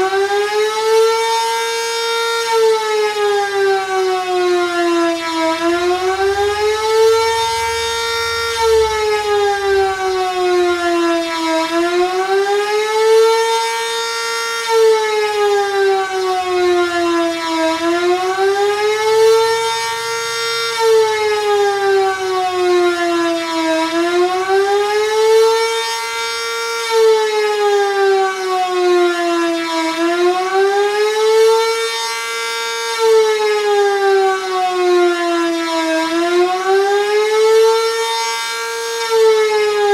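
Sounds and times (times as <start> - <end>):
siren rising and falling wail: 0.0 - 39.9.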